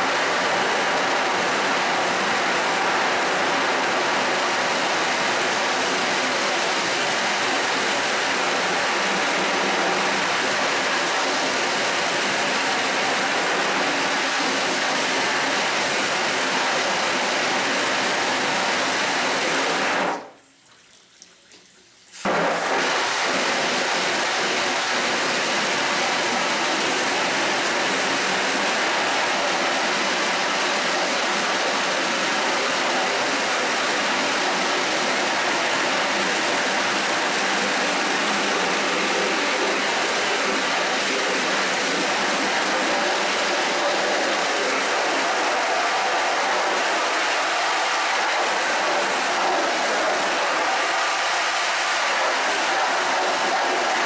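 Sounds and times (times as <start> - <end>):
water jet spraying a screen: 0.0 - 20.4, 21.4 - 54.0.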